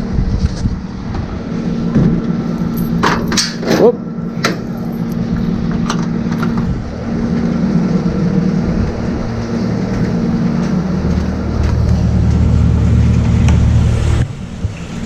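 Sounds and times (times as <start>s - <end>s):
deep low hum: 0.0s - 15.0s
machine engine running: 0.8s - 15.0s.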